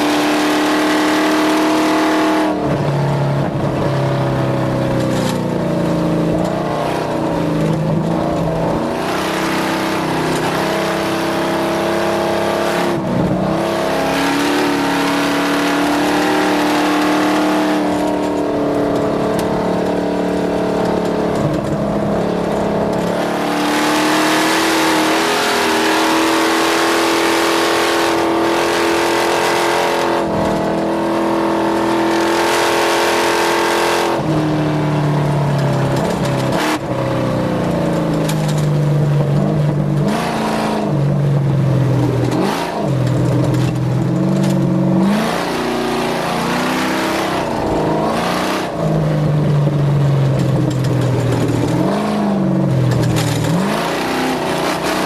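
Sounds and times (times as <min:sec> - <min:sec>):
engine revving at high revs: 0:00.0 - 0:03.0, 0:05.9 - 0:35.0, 0:35.8 - 0:37.3, 0:39.2 - 0:41.4, 0:42.0 - 0:55.0.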